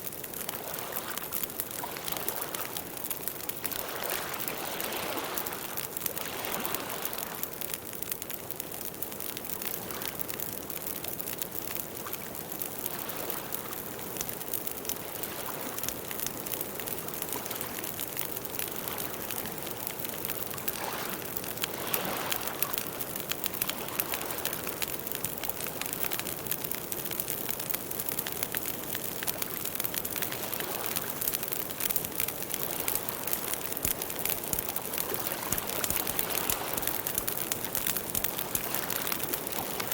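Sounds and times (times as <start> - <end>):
campfire crackling and popping: 0.0 - 39.9
soft hiss of flames: 0.0 - 39.9.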